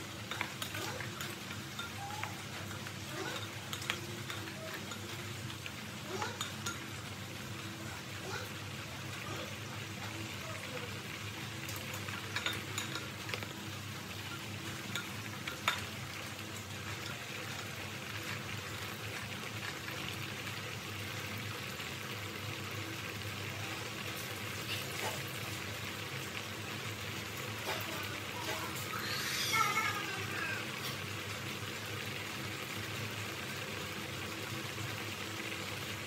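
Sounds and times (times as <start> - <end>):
syrup bubbling and sizzling: 0.0 - 36.0.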